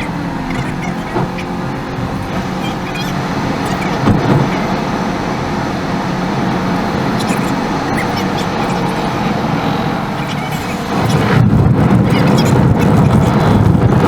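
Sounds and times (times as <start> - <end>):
car bump: 0.0 - 14.0
car road and engine noise: 0.0 - 14.0.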